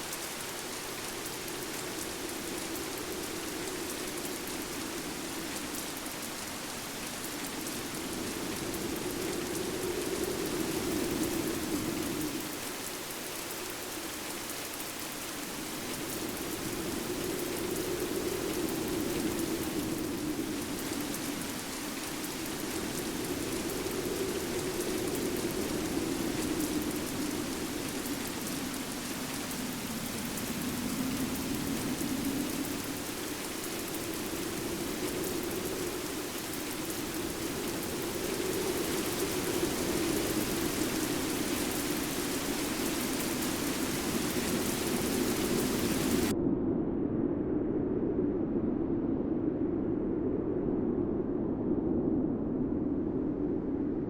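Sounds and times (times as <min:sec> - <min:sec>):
rain hissing: 0:00.0 - 0:46.3
howling wind: 0:00.0 - 0:54.0.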